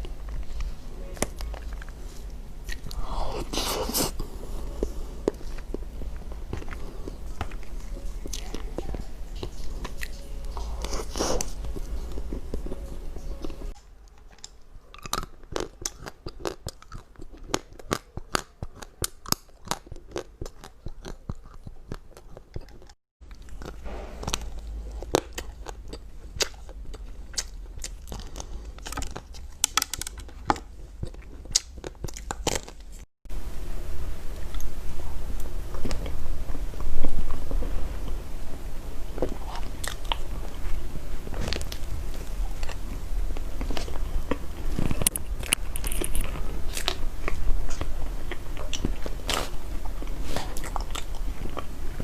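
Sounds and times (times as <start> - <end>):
person chewing crunchy food: 0.0 - 33.1, 39.0 - 52.0.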